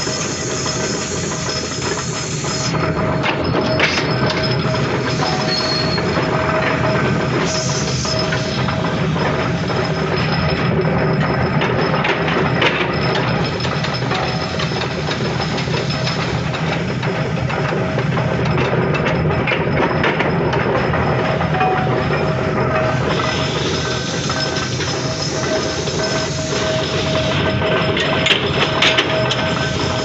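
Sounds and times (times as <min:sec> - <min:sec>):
forging press machine drone: 0:00.0 - 0:30.0.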